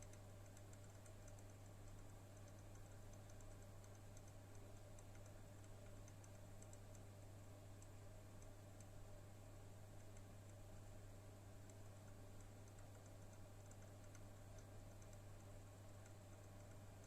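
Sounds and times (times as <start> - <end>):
fan ticking: 0.0 - 9.0, 11.6 - 17.0
fan low hum: 0.0 - 17.0.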